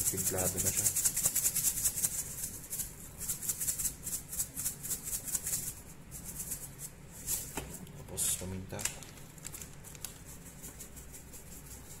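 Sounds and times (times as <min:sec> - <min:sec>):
salt shaker rattling: 0:00.0 - 0:07.6, 0:09.0 - 0:12.0.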